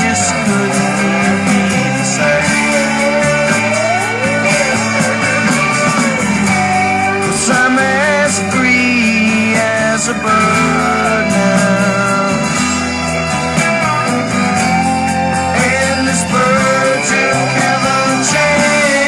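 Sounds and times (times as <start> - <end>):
lead guitar bending notes: 0.0 - 19.0
rock band backing: 0.0 - 19.0.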